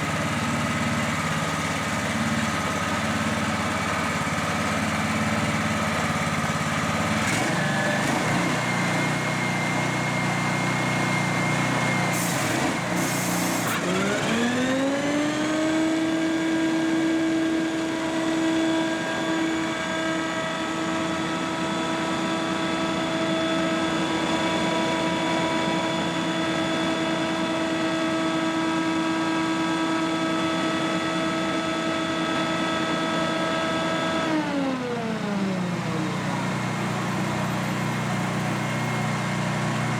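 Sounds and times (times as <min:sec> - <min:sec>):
leaf blower engine whining: 0:00.0 - 0:39.9.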